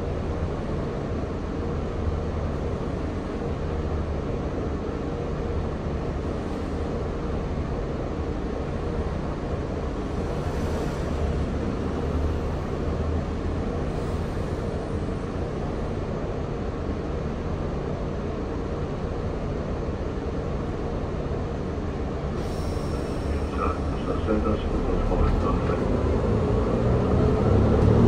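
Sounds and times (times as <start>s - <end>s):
bus diesel engine idling: 0.0s - 26.7s.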